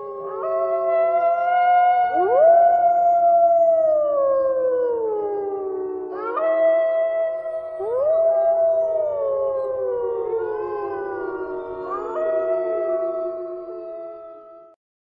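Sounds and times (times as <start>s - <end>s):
eerie howling: 0.0s - 14.8s.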